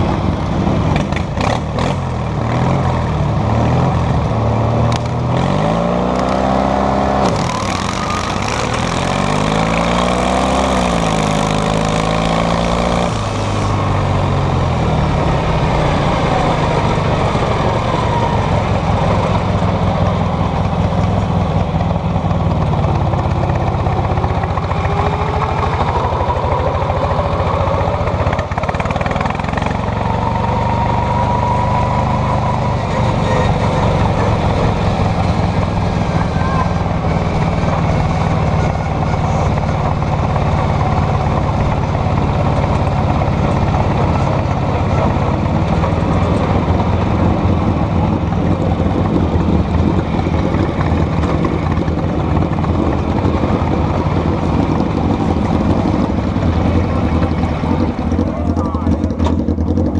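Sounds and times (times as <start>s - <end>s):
tractor engines racing: 0.0s - 59.9s.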